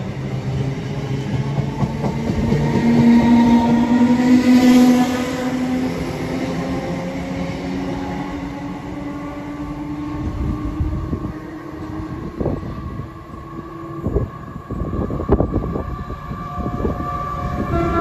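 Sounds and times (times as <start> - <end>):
wheels rumbling on rail: 0.0 - 18.0.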